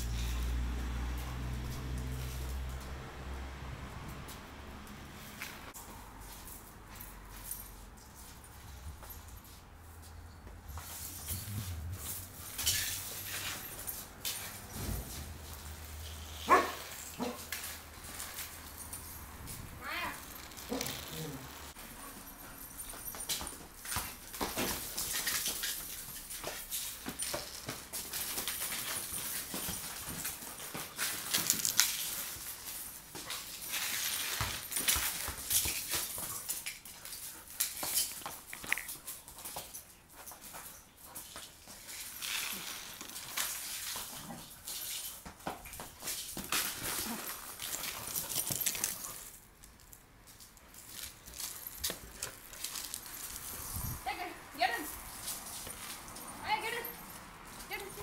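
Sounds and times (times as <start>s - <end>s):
dog paws clicking on tiles: 0.0s - 58.0s.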